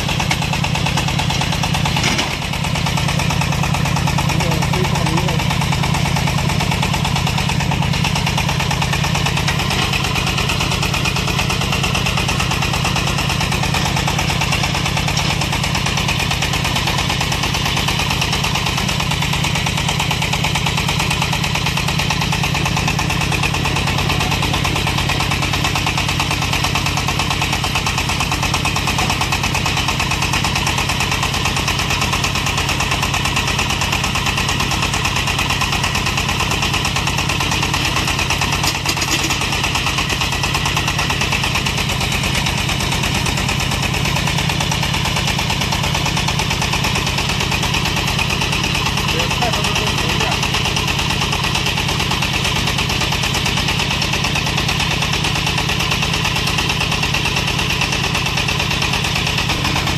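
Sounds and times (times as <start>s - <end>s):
drilling rig engine running: 0.0s - 59.9s.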